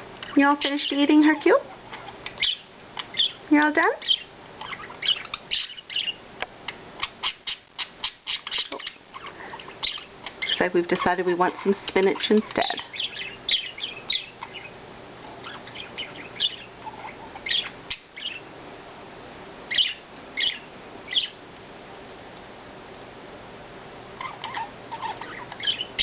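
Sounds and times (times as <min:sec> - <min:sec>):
budgerigars chirping: 0:00.3 - 0:14.8, 0:15.4 - 0:18.5, 0:19.7 - 0:21.4, 0:24.2 - 0:26.0.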